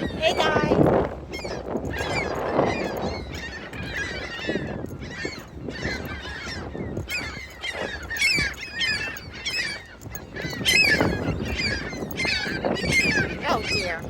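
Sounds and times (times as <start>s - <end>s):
seagulls calling: 0.0s - 14.0s.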